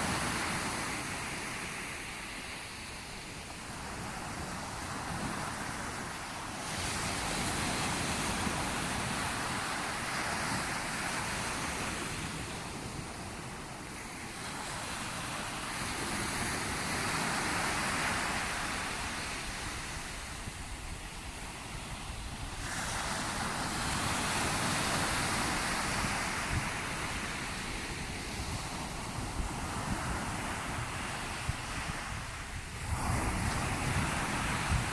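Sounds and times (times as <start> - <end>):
sea waves breaking: 0.0 - 34.9.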